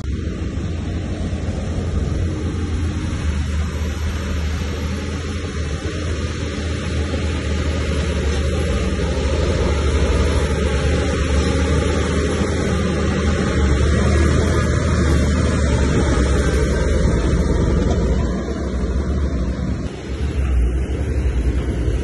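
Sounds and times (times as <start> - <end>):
bulldozer diesel engine droning: 0.0 - 22.0.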